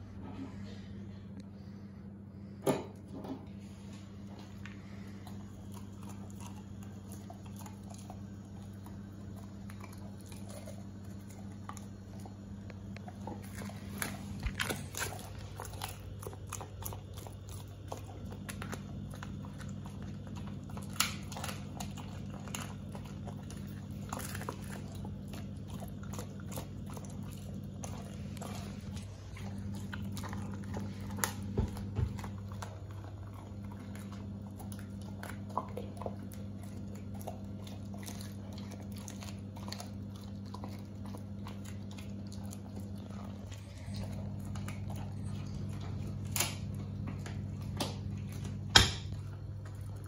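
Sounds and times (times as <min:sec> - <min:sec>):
low hum: 0:00.0 - 0:50.0
dog chewing bones: 0:02.5 - 0:50.0.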